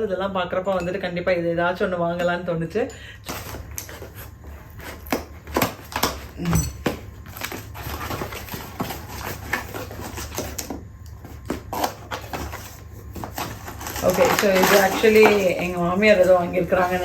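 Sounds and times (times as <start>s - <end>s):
packaging rustling: 3.3s - 17.0s.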